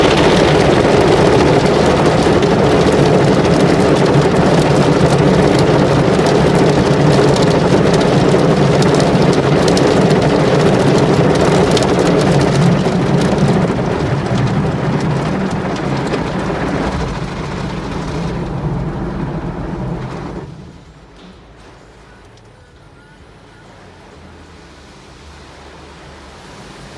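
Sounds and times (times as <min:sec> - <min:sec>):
water jets spraying a car: 0:00.0 - 0:26.9.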